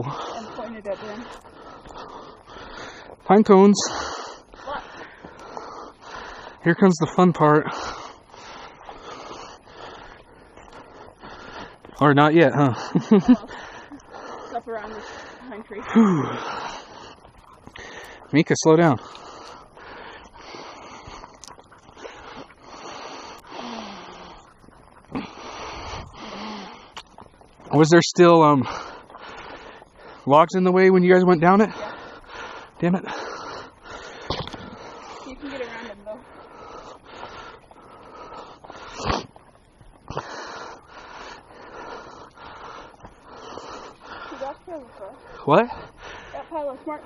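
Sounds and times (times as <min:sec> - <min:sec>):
person breathing heavily: 0:00.0 - 0:27.8, 0:28.4 - 0:47.0.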